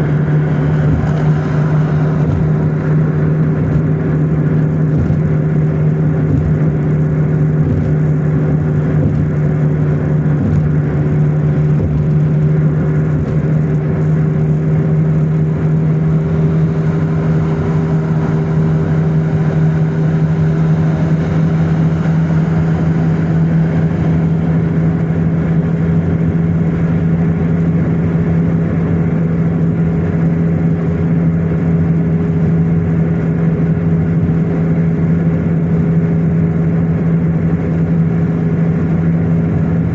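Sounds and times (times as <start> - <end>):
car engine drone: 0.0 - 39.9
road noise: 0.0 - 39.9.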